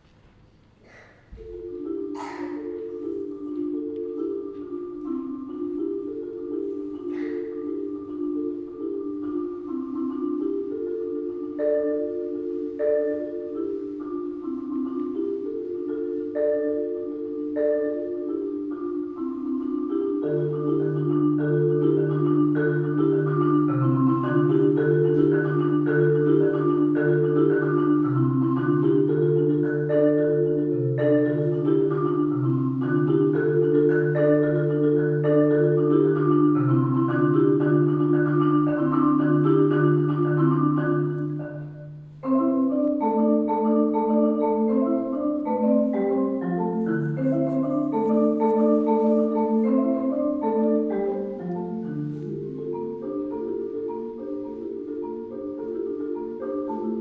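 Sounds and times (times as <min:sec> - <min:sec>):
marimba playing: 0:01.3 - 0:57.0.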